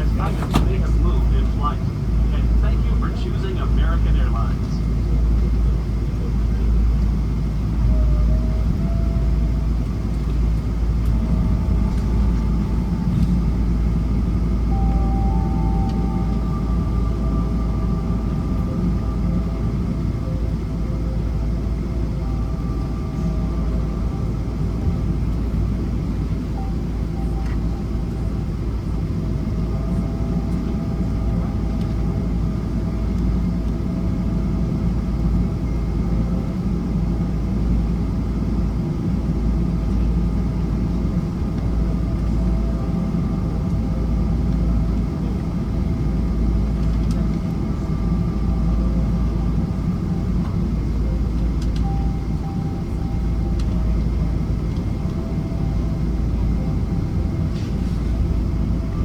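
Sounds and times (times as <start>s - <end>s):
aircraft engines idling: 0.0s - 59.0s
faint steady whine: 0.0s - 59.0s.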